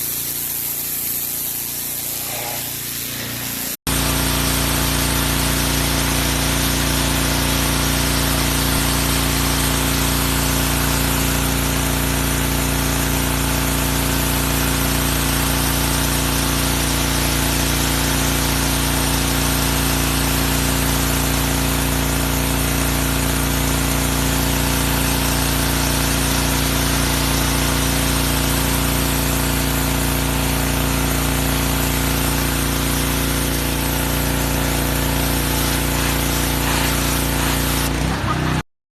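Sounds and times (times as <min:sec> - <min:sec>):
high-pressure water jet hissing: 0:00.0 - 0:38.6
pressure washer motor humming: 0:00.0 - 0:38.6.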